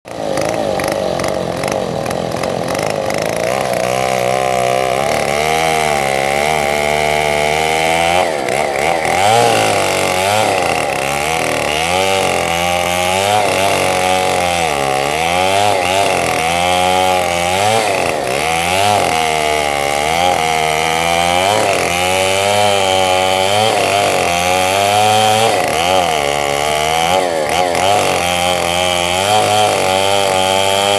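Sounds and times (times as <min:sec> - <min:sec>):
chainsaw cutting wood: 0:00.1 - 0:30.9.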